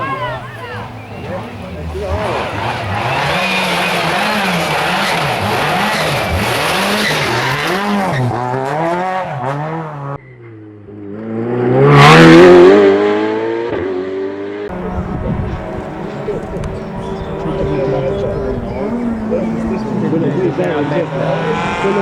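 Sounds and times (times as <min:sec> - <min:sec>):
racing car accelerating: 0:00.0 - 0:22.0
racing car engine revving: 0:00.0 - 0:22.0.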